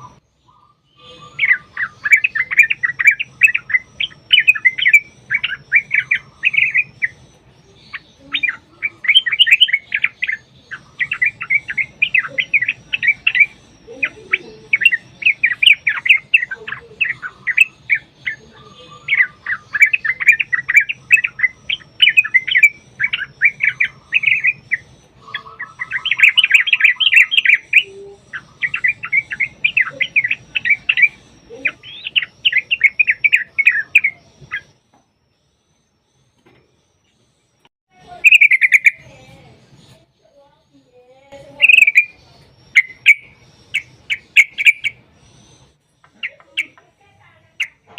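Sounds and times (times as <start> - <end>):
bulbuls singing: 0.0 - 47.9.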